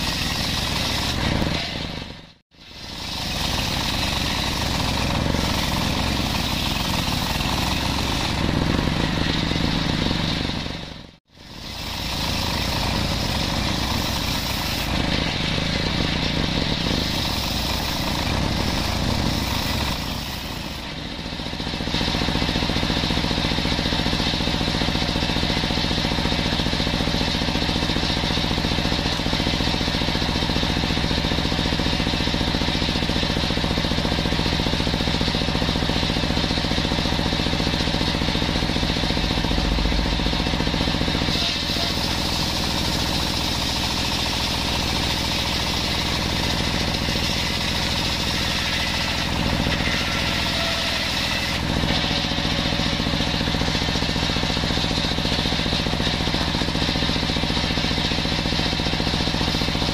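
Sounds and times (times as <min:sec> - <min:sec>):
circular saw ripping wood: 0:00.0 - 0:10.8, 0:11.4 - 0:59.9
saw motor humming: 0:00.0 - 0:59.9.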